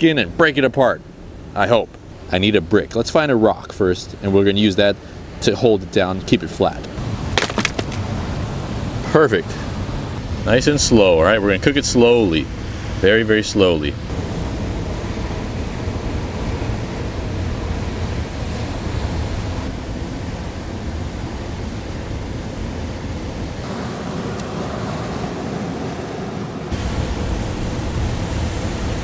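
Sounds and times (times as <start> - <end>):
surf washing on rocky shore: 0.4 - 29.0.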